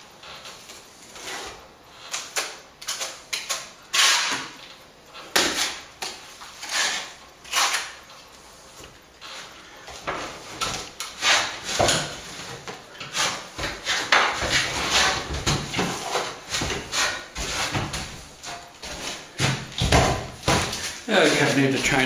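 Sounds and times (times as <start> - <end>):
trowel scraping plaster on wall: 0.2 - 22.0.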